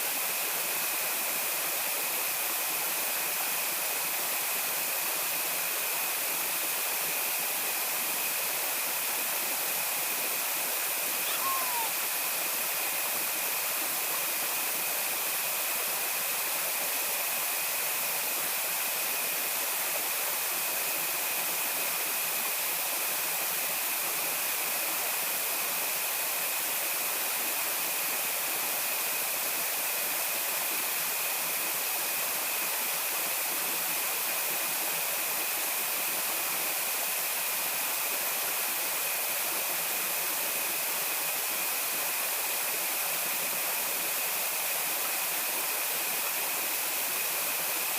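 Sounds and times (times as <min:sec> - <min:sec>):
stream water flowing: 0:00.0 - 0:47.9.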